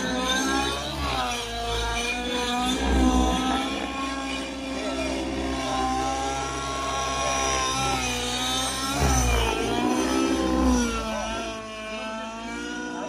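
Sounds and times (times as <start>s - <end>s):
model helicopter engine and rotor: 0.0s - 13.0s.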